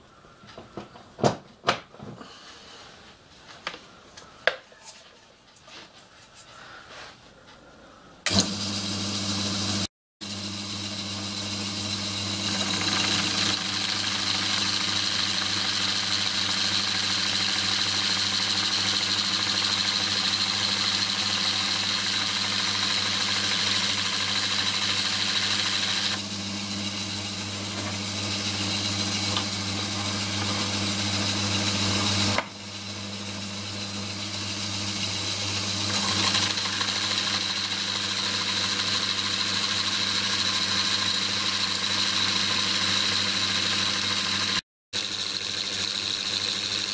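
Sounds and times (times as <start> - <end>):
electric motor hum and whine: 8.3 - 46.9.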